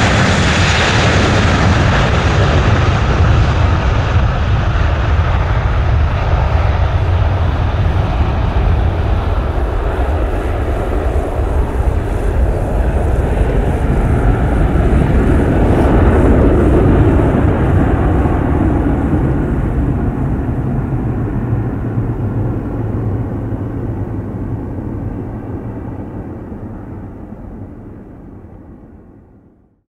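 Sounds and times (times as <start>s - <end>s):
jet engines at high thrust: 0.0s - 29.7s.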